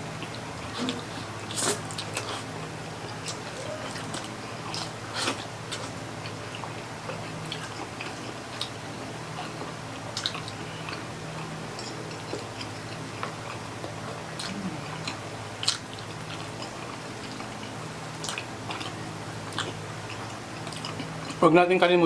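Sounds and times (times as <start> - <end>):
steady low hum: 0.0 - 22.0
person chewing: 0.2 - 8.8, 9.4 - 21.4.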